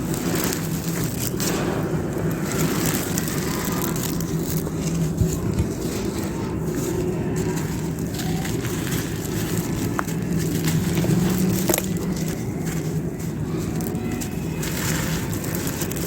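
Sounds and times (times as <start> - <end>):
clay pot pieces crunching: 0.0 - 16.0
sharp cracks: 0.0 - 16.0
steady low hum: 0.0 - 16.0.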